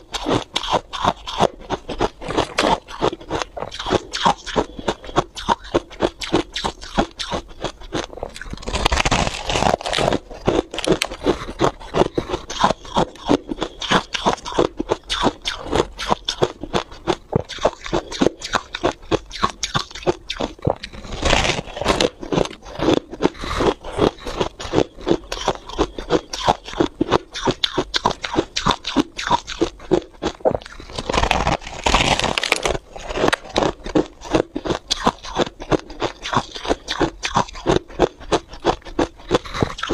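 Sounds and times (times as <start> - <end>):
frost being chewed: 0.0 - 39.9.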